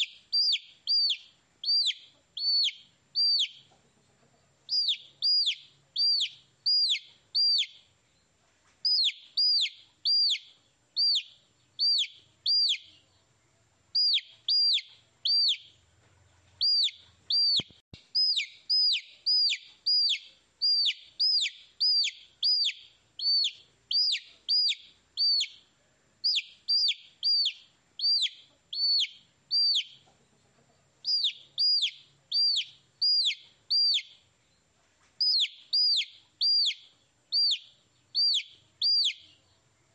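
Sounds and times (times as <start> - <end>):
baby chick peeping: 0.0 - 39.9.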